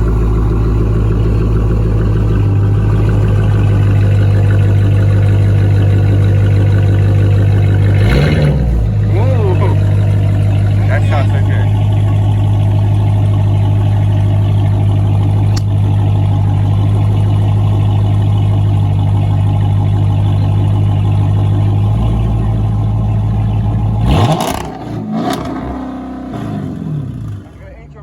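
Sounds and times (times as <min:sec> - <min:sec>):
car engine idling loudly: 0:00.0 - 0:28.0.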